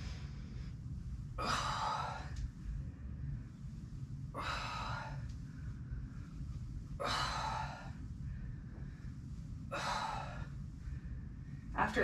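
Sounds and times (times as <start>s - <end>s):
woman breathing heavily: 0.0s - 11.8s
low room rumble: 0.0s - 12.0s.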